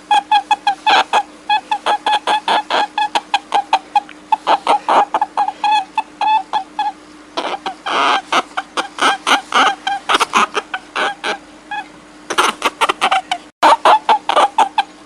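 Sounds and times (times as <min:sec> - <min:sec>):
faint steady hum: 0:00.0 - 0:15.0
short pitched animal calls: 0:00.0 - 0:15.0.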